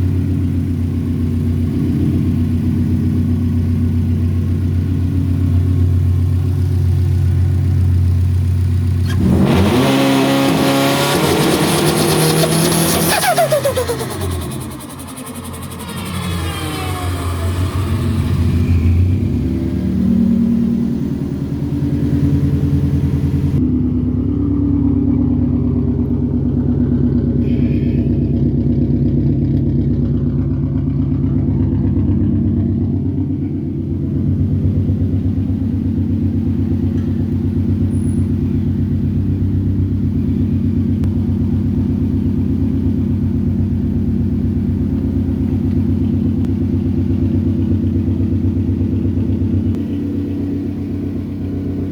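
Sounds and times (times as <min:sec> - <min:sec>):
car engine running steadily: 0:00.0 - 0:51.9.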